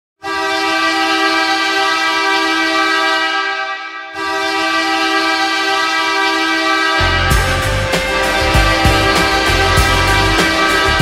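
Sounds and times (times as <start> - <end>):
goal horn blasting: 0.2 - 11.0.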